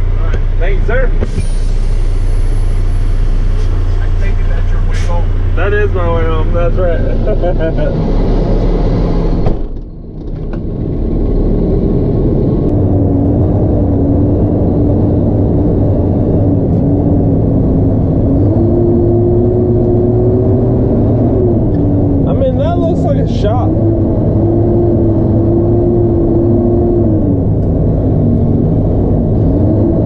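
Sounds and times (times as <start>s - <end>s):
truck engine droning: 0.0s - 30.0s.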